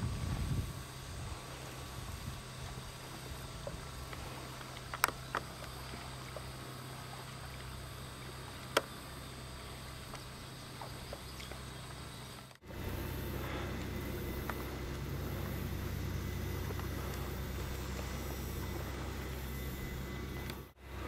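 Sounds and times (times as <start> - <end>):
kayak paddling: 0.0 - 21.0
steady low hum: 0.0 - 21.0.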